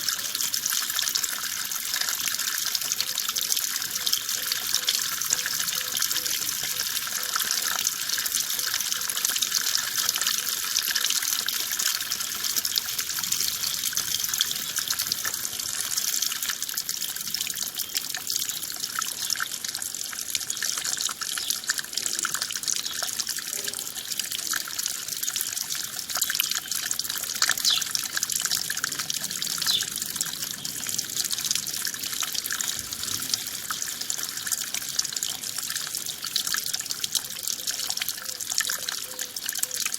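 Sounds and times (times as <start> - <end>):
running water splashing: 0.0 - 39.9.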